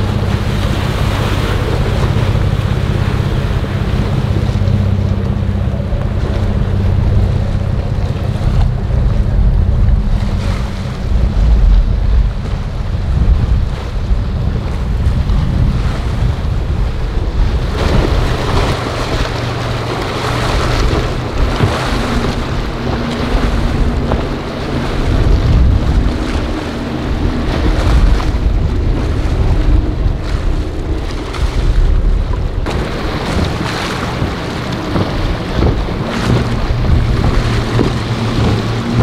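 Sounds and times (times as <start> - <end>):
motorboat engine rumble: 0.0 - 39.0
waves and hull spray: 0.0 - 39.0
wind buffeting microphone: 0.0 - 39.0.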